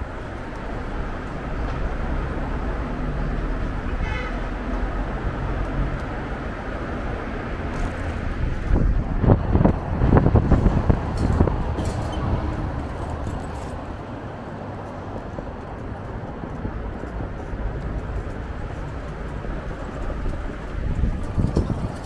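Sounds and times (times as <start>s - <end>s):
street traffic: 0.0s - 22.0s
wind rumble on microphone: 0.0s - 22.0s.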